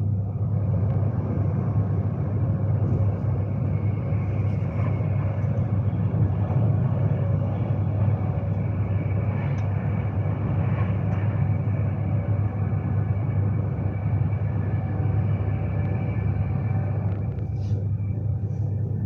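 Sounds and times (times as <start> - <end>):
electric train running rumble: 0.0 - 19.0
faint steady whine: 0.0 - 19.0.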